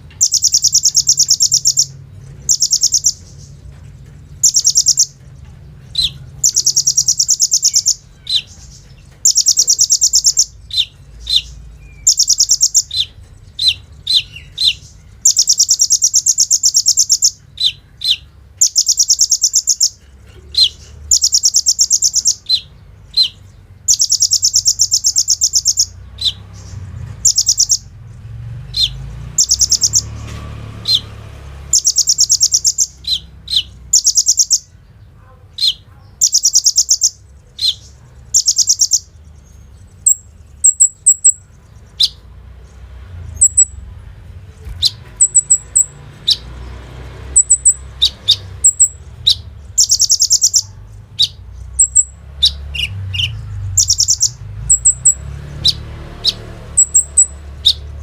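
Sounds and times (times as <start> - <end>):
bird singing rapid high trills: 0.0 - 58.0.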